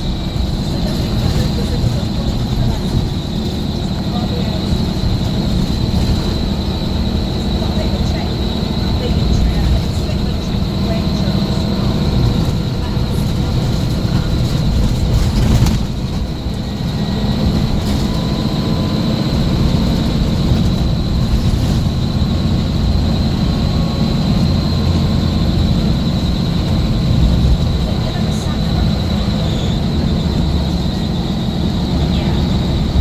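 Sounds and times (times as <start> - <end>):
bus engine rumbling: 0.0 - 33.0
high engine whine: 0.0 - 33.0.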